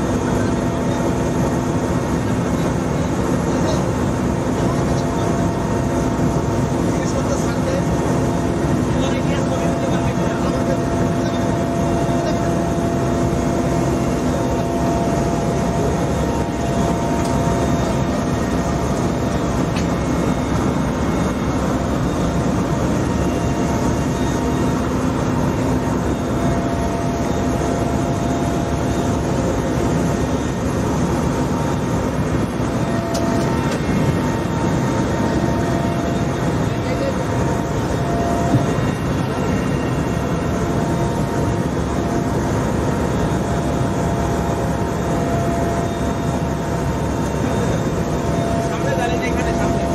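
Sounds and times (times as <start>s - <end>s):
helicopter engine and rotor drone: 0.0s - 49.9s.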